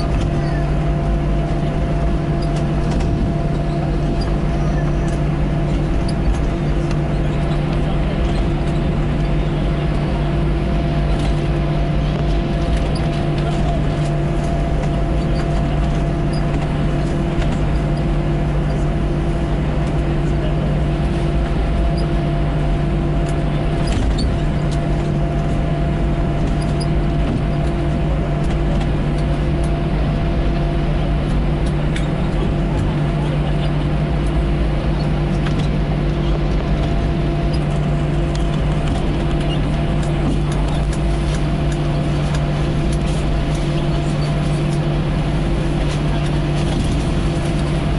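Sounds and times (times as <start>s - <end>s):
jet engines droning in cabin: 0.0s - 47.9s.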